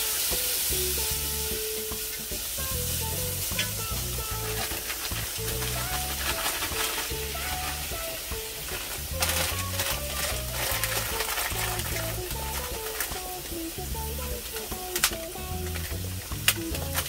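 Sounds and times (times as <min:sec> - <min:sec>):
background music with bass line: 0:00.0 - 0:17.0
food sizzling in a skillet: 0:00.0 - 0:17.0.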